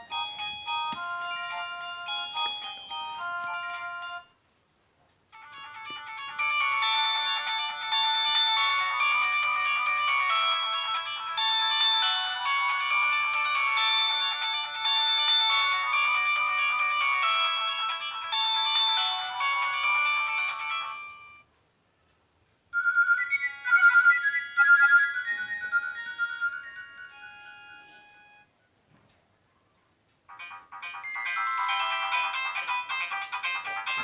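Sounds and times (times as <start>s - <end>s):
mobile phone ringtones: 0.0s - 4.4s, 5.4s - 21.5s, 22.8s - 28.5s, 30.3s - 34.0s.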